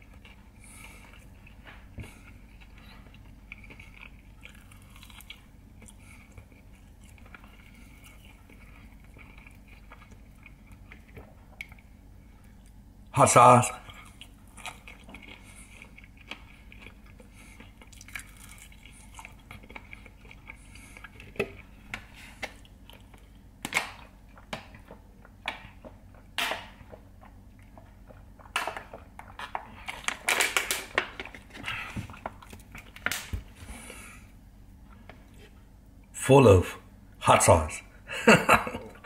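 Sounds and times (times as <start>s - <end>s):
man chewing crunchy food: 0.0s - 13.1s, 13.7s - 35.8s
low background hum: 0.0s - 39.0s.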